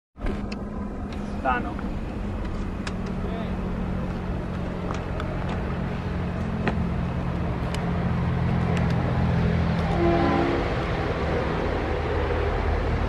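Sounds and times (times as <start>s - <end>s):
diesel locomotive engine drone: 0.2s - 13.0s.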